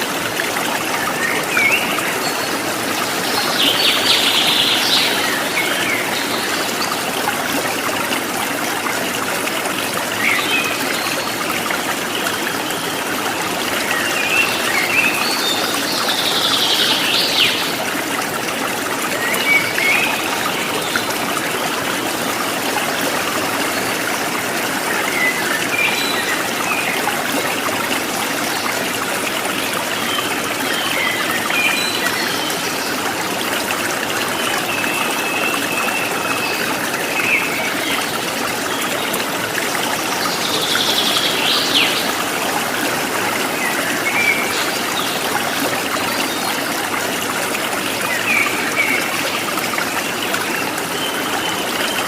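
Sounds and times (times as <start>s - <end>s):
stream running: 0.0s - 52.0s.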